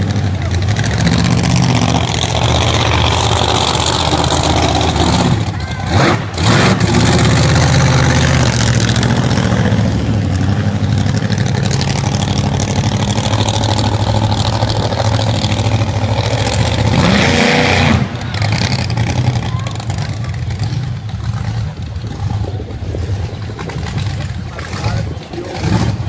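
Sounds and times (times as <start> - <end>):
backhoe engine running: 0.0 - 26.0.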